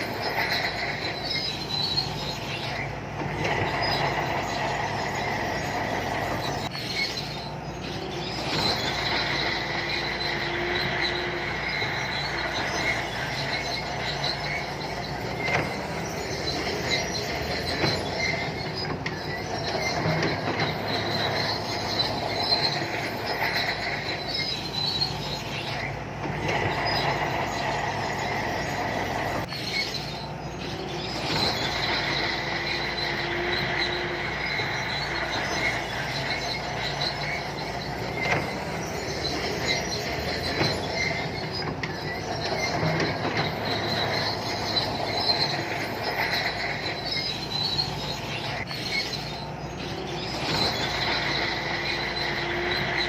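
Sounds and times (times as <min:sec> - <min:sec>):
diesel engine running: 0:00.0 - 0:53.0
steel tracks squealing: 0:00.0 - 0:53.0.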